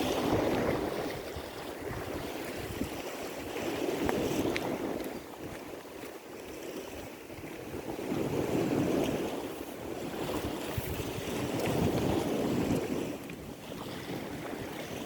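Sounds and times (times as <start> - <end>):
sea waves washing: 0.0 - 15.0
wind: 0.0 - 15.0.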